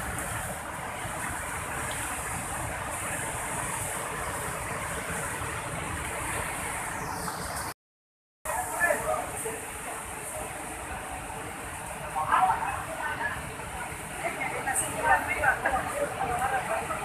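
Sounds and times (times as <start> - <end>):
river rushing: 0.0 - 7.7, 8.5 - 17.0.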